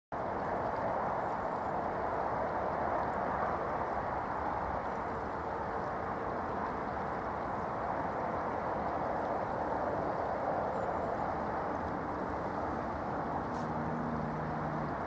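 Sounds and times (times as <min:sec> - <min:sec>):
river rushing over rocks: 0:01.8 - 0:15.0.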